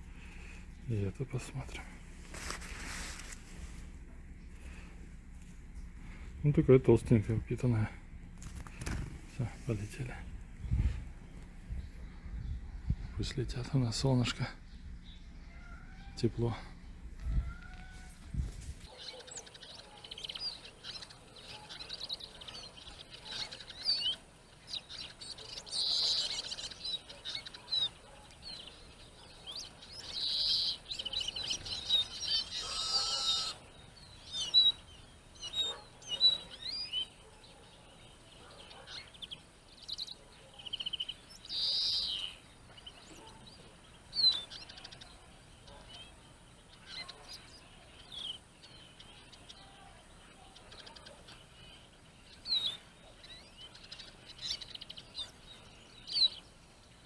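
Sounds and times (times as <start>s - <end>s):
finches chirping and trilling: 0.0s - 57.0s.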